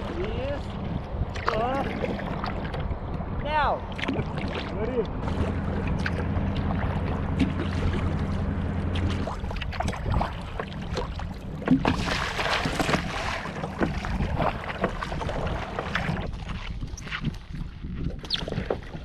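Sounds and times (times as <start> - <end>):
water slapping against kayak hull: 0.0 - 19.0
wind rumbling on microphone: 0.0 - 19.0.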